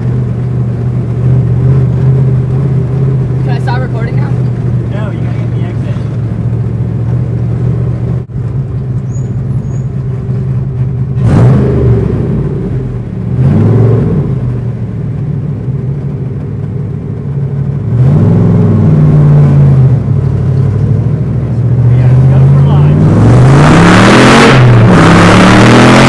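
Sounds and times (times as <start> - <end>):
car exhaust burbling and revving: 0.0 - 26.0.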